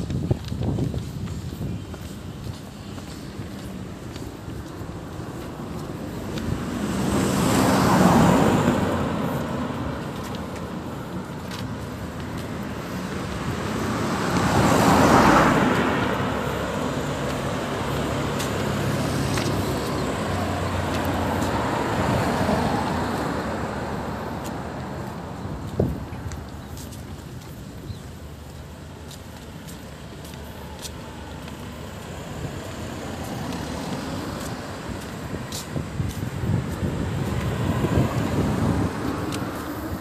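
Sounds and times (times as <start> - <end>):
cars passing: 0.0 - 40.0
engine hum: 0.0 - 40.0.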